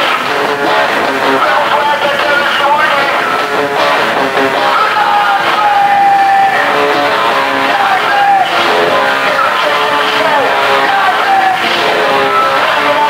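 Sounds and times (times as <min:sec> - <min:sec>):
electric guitar bending notes: 0:00.0 - 0:13.0
punk rock band playing: 0:00.0 - 0:13.0.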